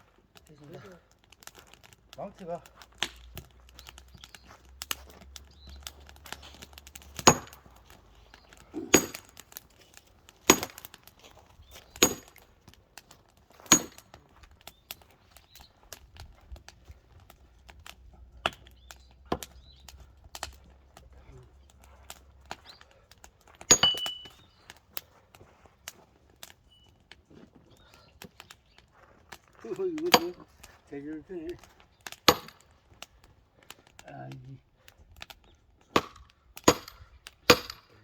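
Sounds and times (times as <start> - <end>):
hammer blows splitting firewood: 0.0 - 38.0.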